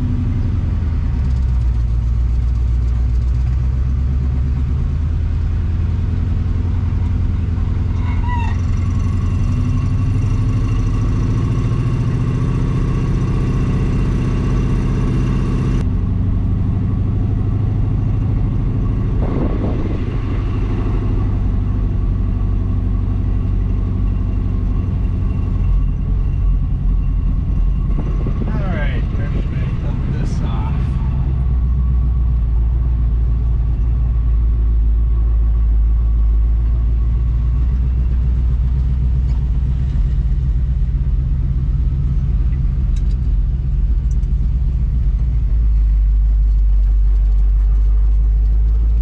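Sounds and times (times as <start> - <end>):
truck engine running under load: 0.0 - 49.0.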